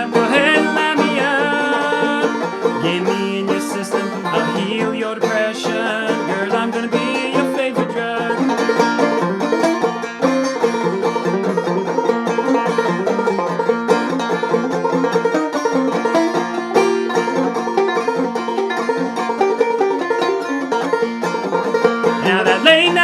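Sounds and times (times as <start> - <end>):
bluegrass band playing: 0.0 - 23.0
clawhammer banjo picking: 0.0 - 23.0.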